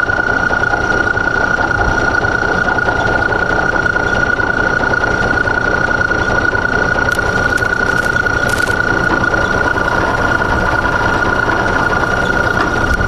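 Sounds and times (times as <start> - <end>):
drill press motor whining: 0.0 - 13.0.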